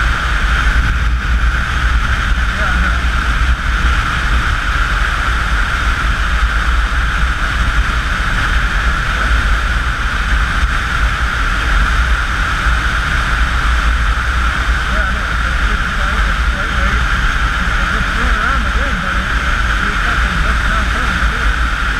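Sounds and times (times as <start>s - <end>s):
motorcycle engine: 0.0s - 21.9s
road noise: 0.0s - 21.9s
wind buffeting on microphone: 0.0s - 21.9s
wind rush on motorcycle: 0.0s - 21.9s.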